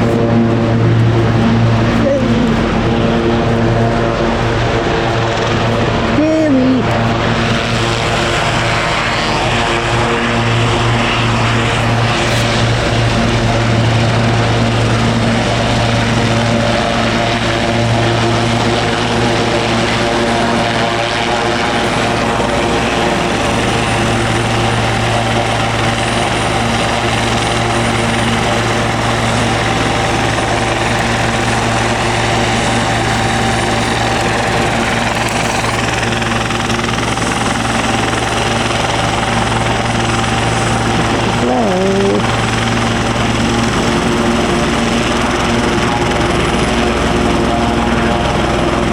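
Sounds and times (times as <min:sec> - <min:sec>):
helicopter running: 0:00.0 - 0:48.9.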